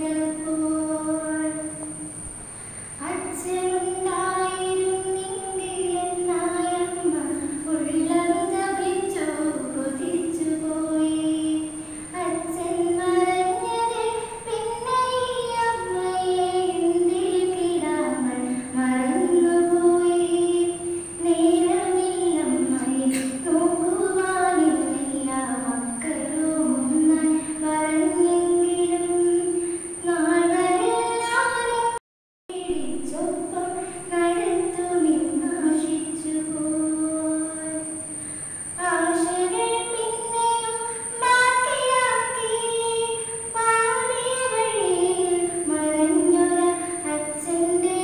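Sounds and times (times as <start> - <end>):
woman singing unaccompanied: 0.0 - 2.2, 2.9 - 48.0.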